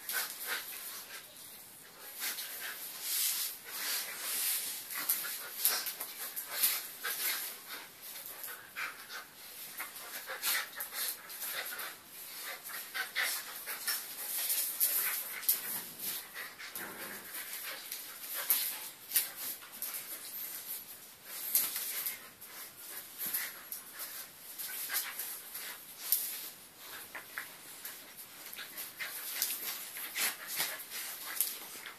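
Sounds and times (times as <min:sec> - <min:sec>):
claws scrabbling on tiled floor: 0:01.9 - 0:31.9.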